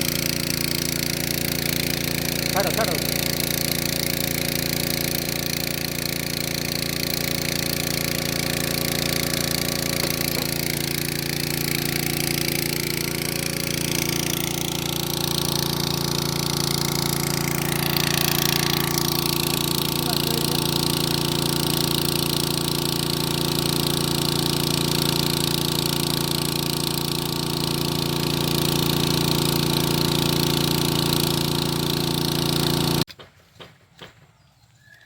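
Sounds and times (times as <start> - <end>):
drilling rig engine humming: 0.0 - 33.1.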